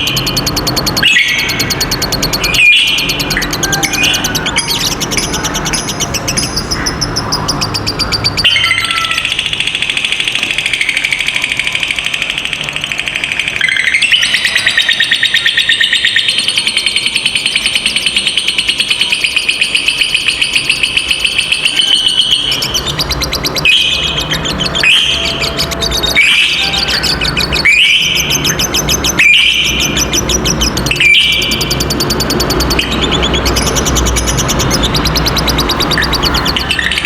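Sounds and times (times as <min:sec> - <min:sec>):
lovebirds chattering: 0:00.0 - 0:37.0.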